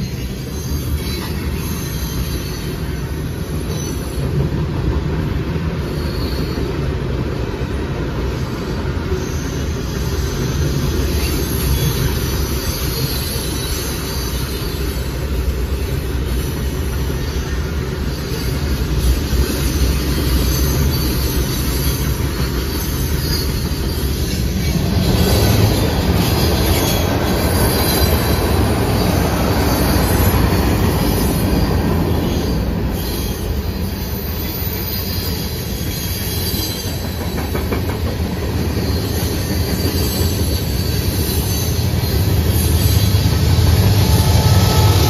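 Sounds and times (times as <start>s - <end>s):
freight train wheels rumbling on rail: 0.0s - 45.0s
faint high wheel squeal: 5.8s - 7.0s, 8.3s - 38.1s, 38.7s - 45.0s.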